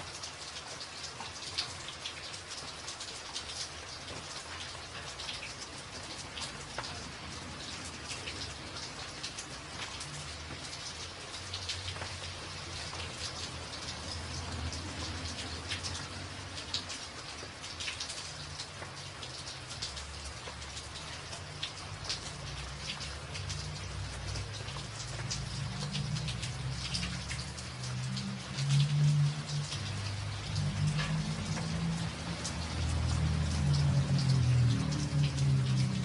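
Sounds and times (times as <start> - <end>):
rain on a tin roof: 0.0 - 36.0.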